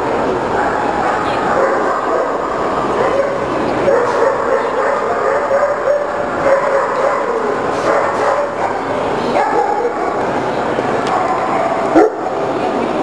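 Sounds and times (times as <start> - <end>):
dogs barking and yipping: 0.5 - 10.3, 11.0 - 12.4.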